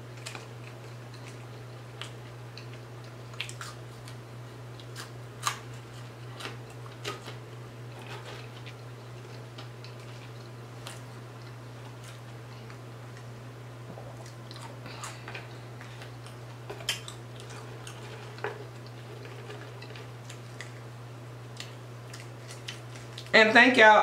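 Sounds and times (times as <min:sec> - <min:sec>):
chewing crunches: 0:00.0 - 0:23.3
steady low hum: 0:00.0 - 0:24.0.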